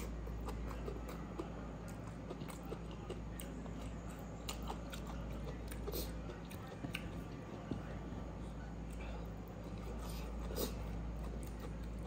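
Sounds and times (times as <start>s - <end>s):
wet chewing clicks and smacks: 0.0s - 8.0s, 8.8s - 12.0s
low steady hum: 0.0s - 12.0s.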